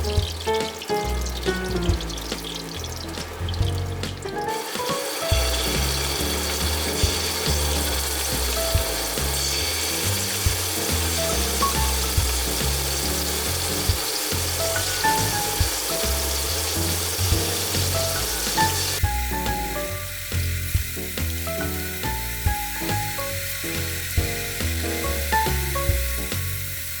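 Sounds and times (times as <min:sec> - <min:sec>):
background music with bass: 0:00.0 - 0:04.5, 0:05.3 - 0:27.0
food sizzling in a pan: 0:00.0 - 0:27.0.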